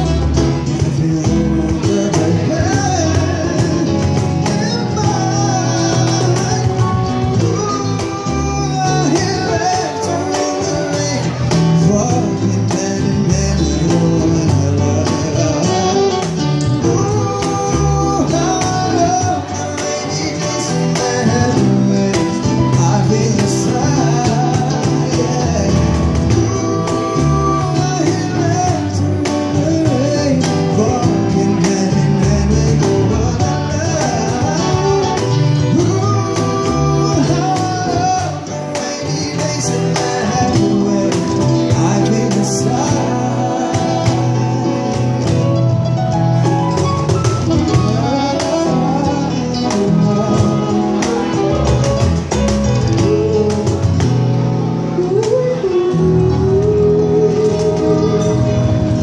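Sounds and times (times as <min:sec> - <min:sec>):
acoustic band playing: 0:00.0 - 0:59.0
man singing a pop ballad: 0:00.0 - 0:59.0.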